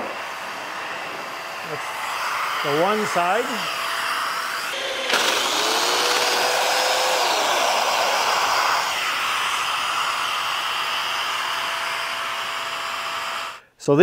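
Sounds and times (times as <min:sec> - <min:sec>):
dust extractor rushing: 0:00.0 - 0:13.6
power joiner motor whining: 0:00.0 - 0:13.6.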